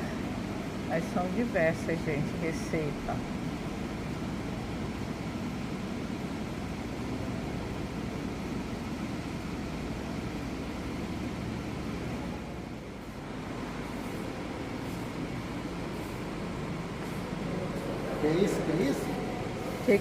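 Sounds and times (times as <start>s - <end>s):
low background hum and rumble: 0.0s - 20.0s.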